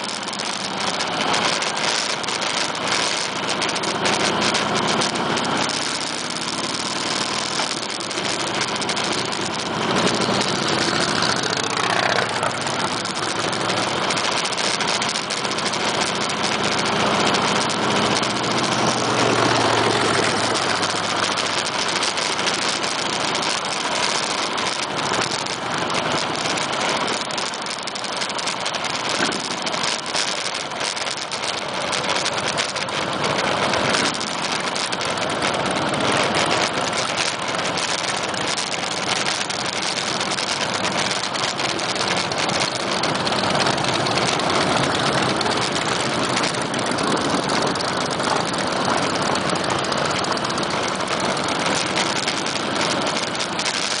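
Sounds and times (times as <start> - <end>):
motorcycle engines running slowly: 0.0 - 54.0.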